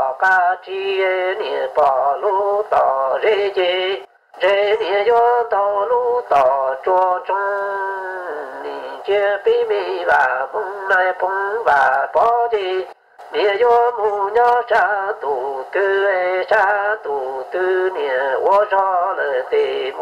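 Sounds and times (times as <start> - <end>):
person singing slow melody: 0.0 - 20.0.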